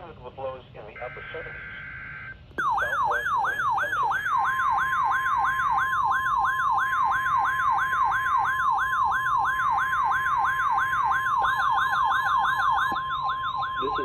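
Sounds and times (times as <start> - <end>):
steady alarm tone: 1.0 - 14.0
downward sweeping siren tone: 2.6 - 14.0.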